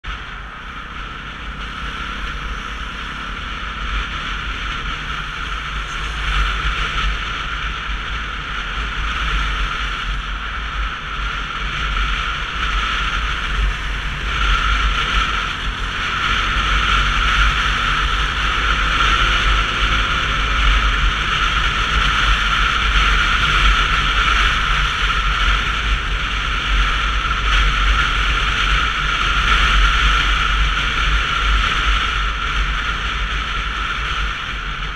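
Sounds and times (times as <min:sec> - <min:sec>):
faint motorcycle engine: 0:00.0 - 0:34.9
road noise: 0:00.0 - 0:34.9.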